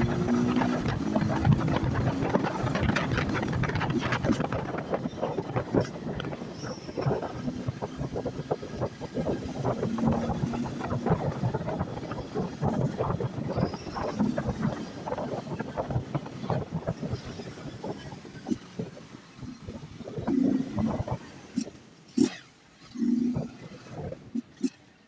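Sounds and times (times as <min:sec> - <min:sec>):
wind buffeting microphone: 0:00.0 - 0:21.8, 0:23.2 - 0:24.6
motorcycle engine hum: 0:00.0 - 0:25.0.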